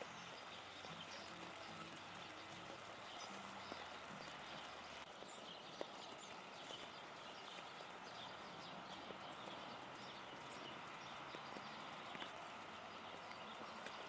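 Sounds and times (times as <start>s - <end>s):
drips ticking on leaves: 0.0s - 14.0s
light rain through tree foliage: 0.0s - 14.0s.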